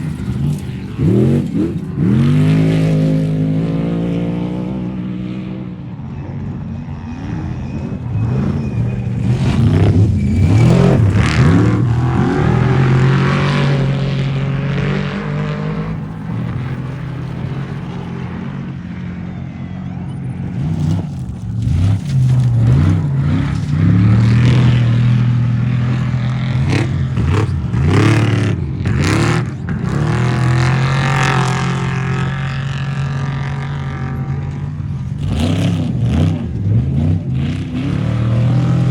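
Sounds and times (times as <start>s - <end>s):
race vehicle engines revving: 0.0s - 38.9s.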